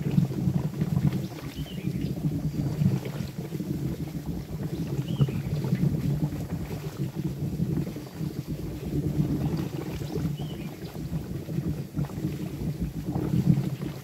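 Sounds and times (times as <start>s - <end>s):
molten wax bubbling and crackling: 0.0s - 14.0s.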